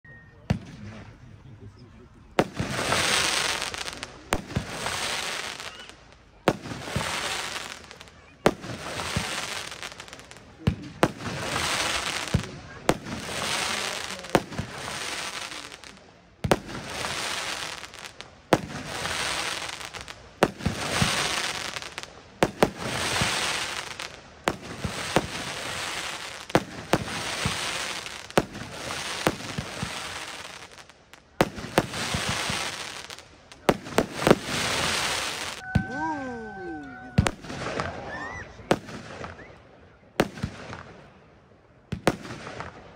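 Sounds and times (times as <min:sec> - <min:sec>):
firework shots cracking and hissing: 0:00.5 - 0:01.4, 0:02.3 - 0:39.6, 0:40.2 - 0:41.3, 0:41.9 - 0:42.9.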